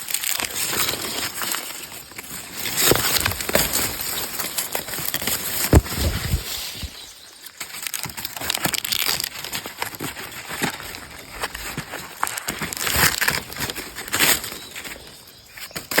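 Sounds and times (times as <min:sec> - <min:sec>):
dry corn leaves rustling: 0:00.0 - 0:16.0.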